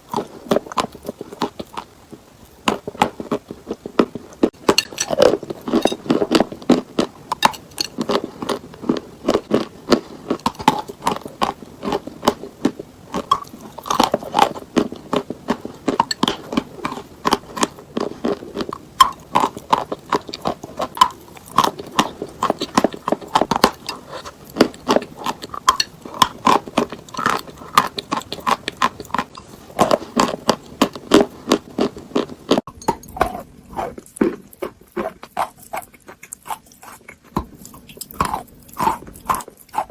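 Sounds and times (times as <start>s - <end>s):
person chewing chalk: 0.0s - 39.9s.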